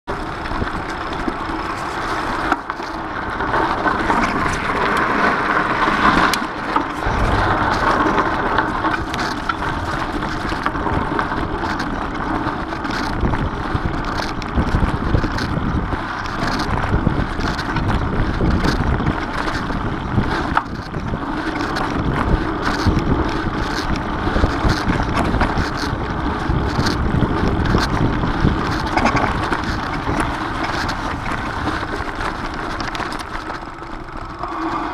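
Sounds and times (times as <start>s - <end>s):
bike clicks and rattles: 0.1s - 34.9s
bike tyres rolling over leaves: 0.1s - 34.9s
wind buffeting microphone: 0.1s - 34.9s.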